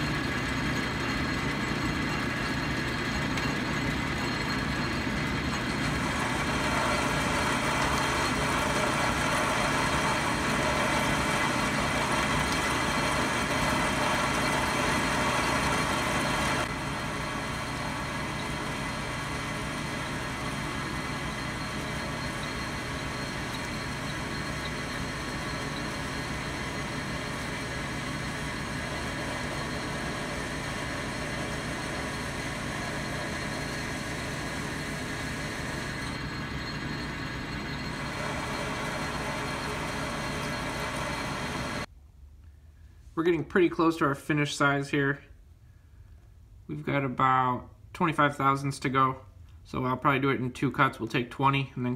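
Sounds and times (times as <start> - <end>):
metal lathe running: 0.0 - 41.9.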